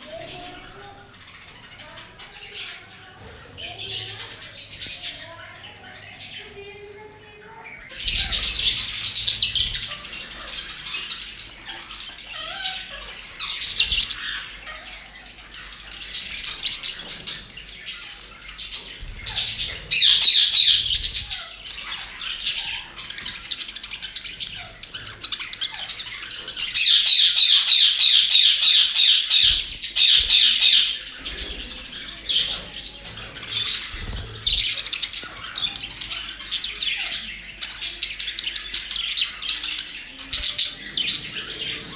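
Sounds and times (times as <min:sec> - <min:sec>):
parrots squawking and chattering: 0:00.0 - 0:41.9.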